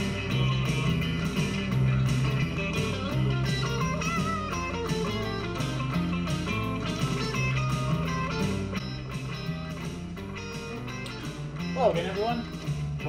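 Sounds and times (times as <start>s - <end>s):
bass line: 0.0s - 13.0s
guitar-led instrumental music: 0.0s - 13.0s.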